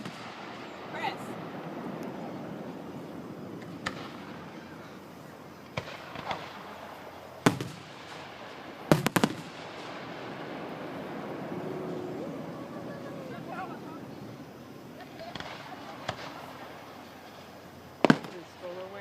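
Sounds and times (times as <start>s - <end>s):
fireworks bangs: 0.0s - 19.0s
steady background noise: 0.0s - 19.0s.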